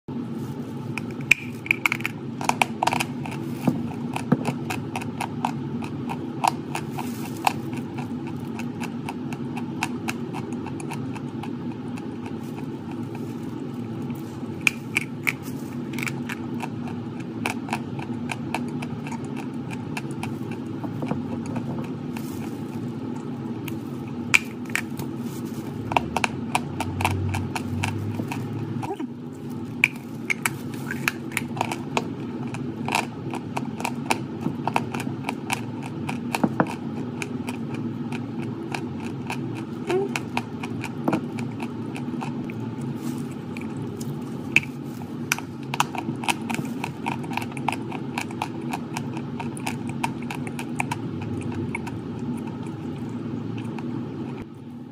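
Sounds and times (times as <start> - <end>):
low background hum: 0.1 - 54.9
chalk crunching while chewed: 0.7 - 54.6.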